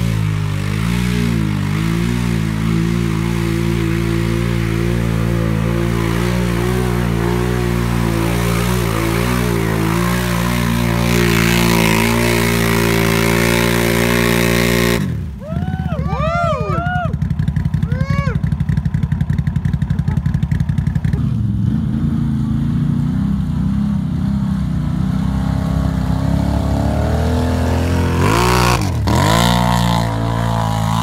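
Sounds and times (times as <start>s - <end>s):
atv engine revving hard: 0.0s - 31.0s
tyres churning through mud: 0.0s - 31.0s.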